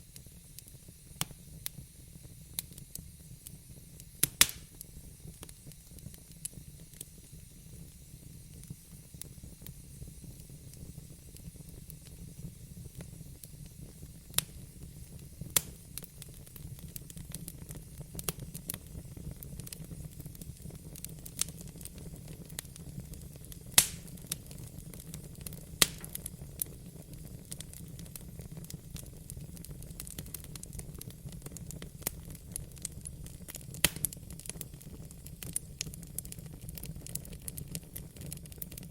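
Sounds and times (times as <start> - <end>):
wood fire crackling: 0.1 - 38.9.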